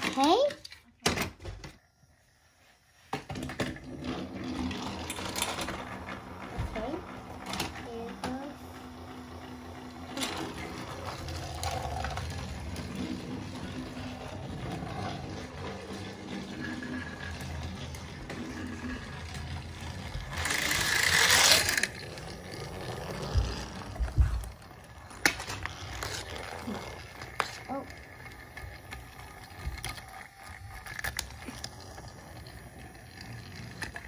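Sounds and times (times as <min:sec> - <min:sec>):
toy train motor whirring: 0:00.0 - 0:00.8, 0:02.8 - 0:34.0.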